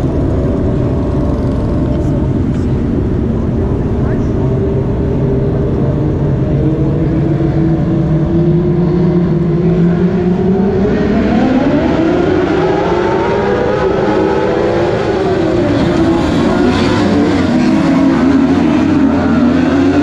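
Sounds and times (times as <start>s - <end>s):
race car engines droning: 0.0s - 20.0s.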